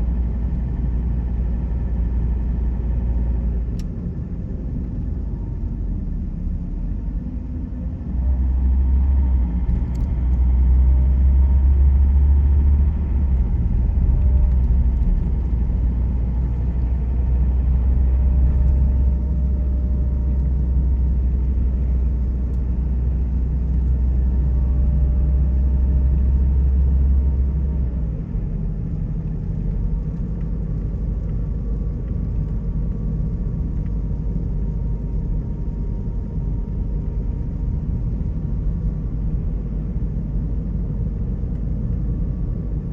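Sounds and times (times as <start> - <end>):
car driving on road: 0.0 - 42.9.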